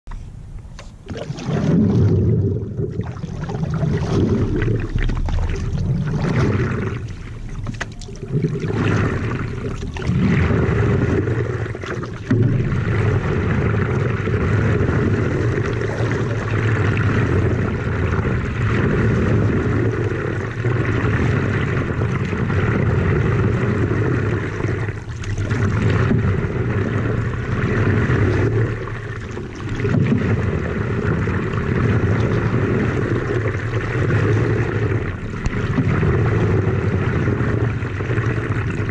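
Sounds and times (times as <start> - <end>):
water rushing along paddleboard: 0.1 - 38.9.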